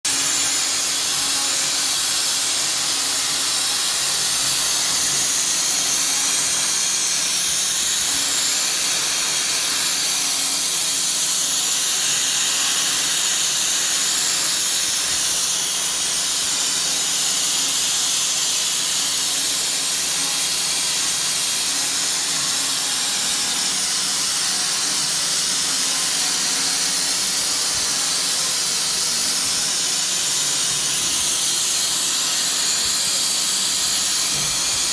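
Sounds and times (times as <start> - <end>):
milling machine cutting hiss: 0.1 - 34.9.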